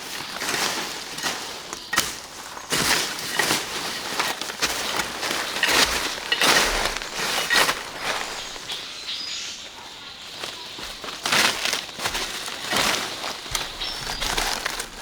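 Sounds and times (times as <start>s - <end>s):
dry material rustling and crunching: 0.0s - 15.0s.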